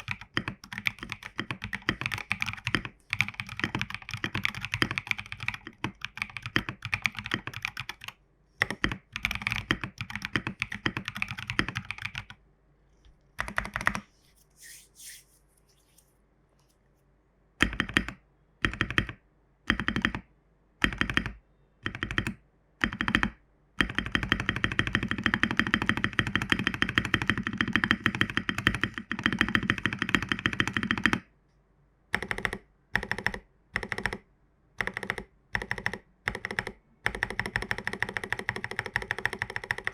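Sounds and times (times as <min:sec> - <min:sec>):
fast typing on mechanical keyboard: 0:00.0 - 0:12.4, 0:13.4 - 0:14.0, 0:17.6 - 0:20.2, 0:20.8 - 0:31.2, 0:32.2 - 0:34.2, 0:34.8 - 0:39.9.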